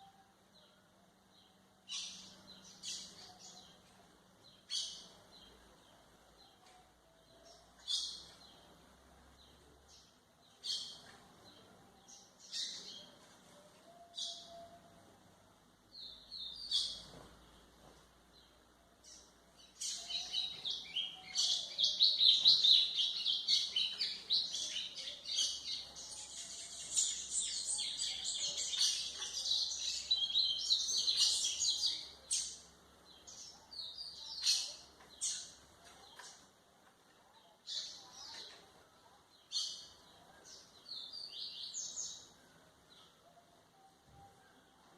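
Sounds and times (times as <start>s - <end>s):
bird chirping and twittering: 1.4s - 15.2s, 15.9s - 44.9s.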